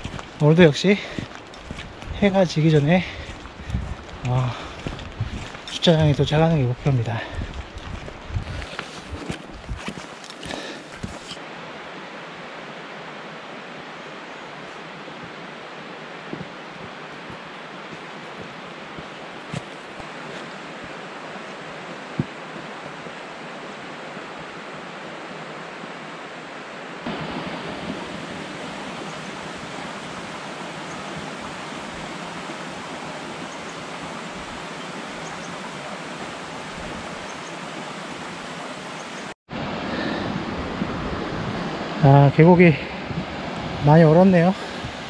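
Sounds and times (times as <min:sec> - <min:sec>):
stream running over rocks: 0:00.0 - 0:45.0.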